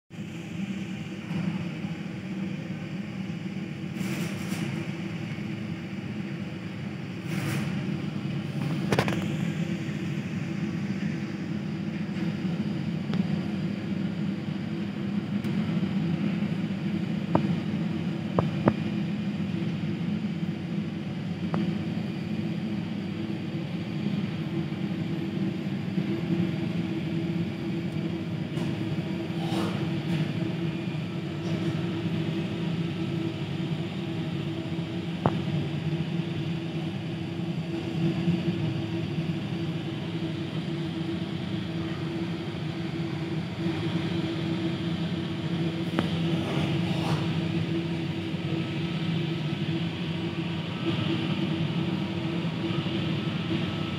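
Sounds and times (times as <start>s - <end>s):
muffled jet aircraft rumble: 0.1s - 53.9s.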